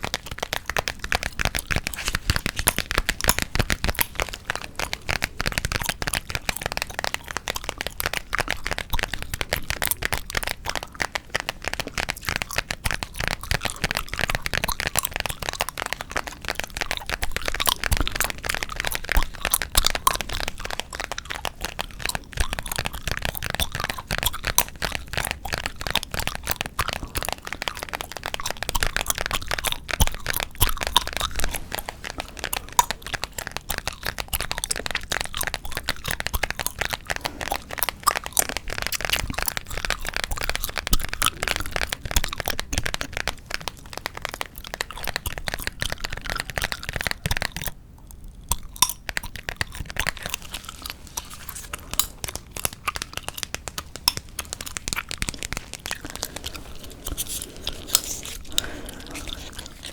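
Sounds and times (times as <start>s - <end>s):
gum chewing: 0.0s - 59.9s.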